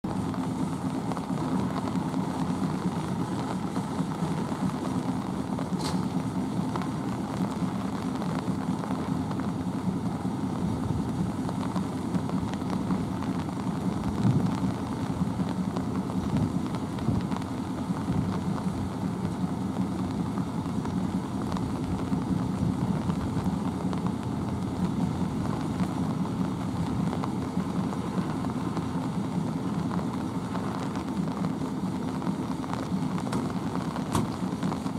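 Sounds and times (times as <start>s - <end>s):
diesel locomotive engine idling: 0.0s - 34.9s.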